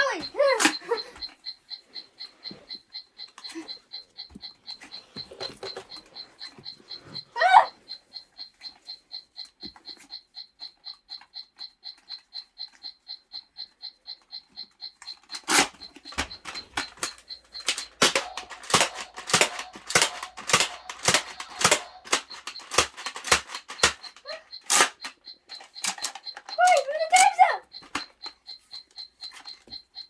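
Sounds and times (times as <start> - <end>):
high electronic beeping: 0.0 - 9.5, 12.6 - 30.0.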